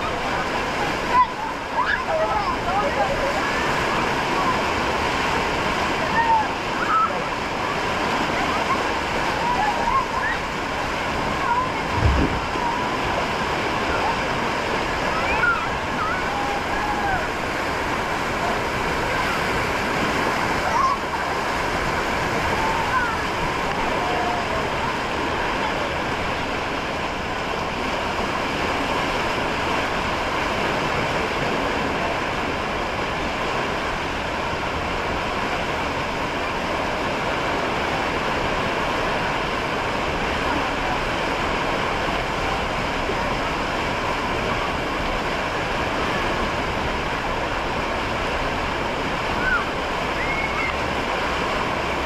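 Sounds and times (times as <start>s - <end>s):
water rushing down a channel: 0.0s - 52.0s.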